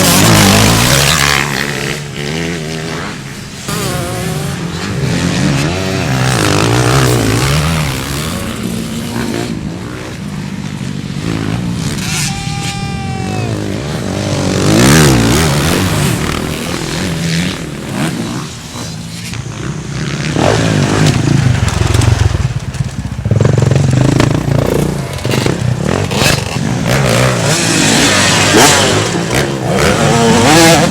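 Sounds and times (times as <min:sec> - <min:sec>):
motocross motorcycles revving: 0:00.0 - 0:30.9
motorcycle passing close: 0:00.0 - 0:30.9.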